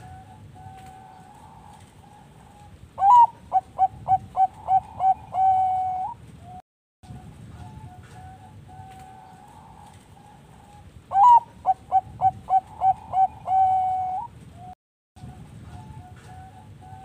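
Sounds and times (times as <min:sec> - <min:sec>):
dove cooing: 0:00.0 - 0:14.7, 0:15.3 - 0:17.0.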